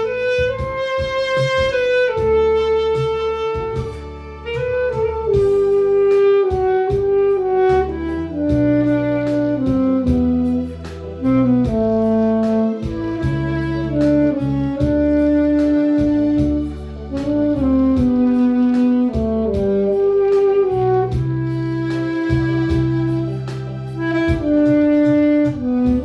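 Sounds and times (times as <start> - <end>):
backing track with bass and drums: 0.0 - 26.0
saxophone melody: 0.0 - 26.0.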